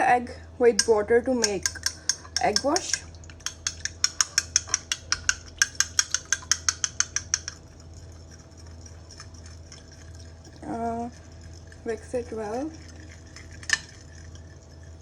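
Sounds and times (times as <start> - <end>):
whisk clicking against bowl: 0.8 - 10.2, 11.1 - 14.8.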